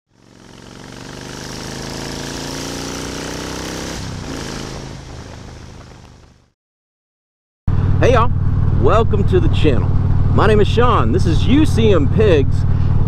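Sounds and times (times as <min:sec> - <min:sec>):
motorcycle engine running: 0:00.1 - 0:06.5, 0:07.7 - 0:13.0.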